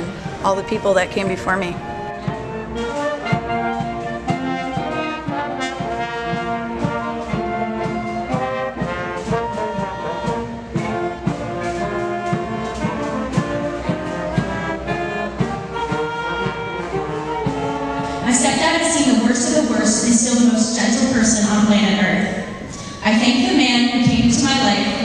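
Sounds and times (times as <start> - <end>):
concert band playing: 0.0 - 25.0.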